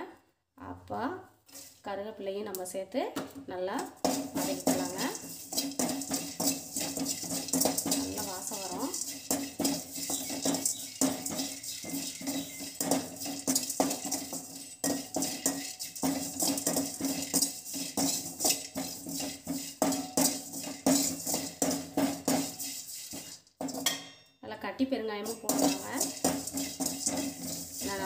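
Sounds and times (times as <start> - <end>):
metal ladle scraping a pan: 1.5 - 1.8, 3.8 - 24.2, 25.2 - 28.0.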